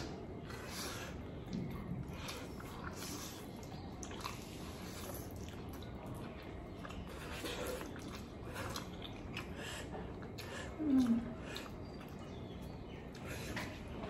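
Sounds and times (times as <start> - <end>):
wet chewing of noodles: 0.0 - 14.0.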